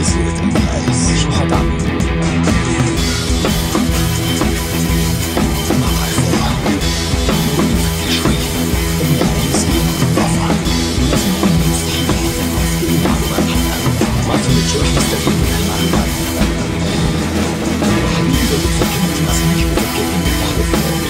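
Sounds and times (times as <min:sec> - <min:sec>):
drum-kit beat: 0:00.0 - 0:21.0
held bass notes: 0:00.0 - 0:21.0.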